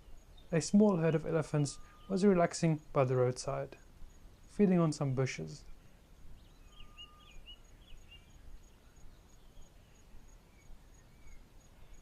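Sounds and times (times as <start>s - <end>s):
bird chirps: 0.0s - 2.9s, 3.8s - 12.0s
high pulsing insect call: 0.0s - 12.0s.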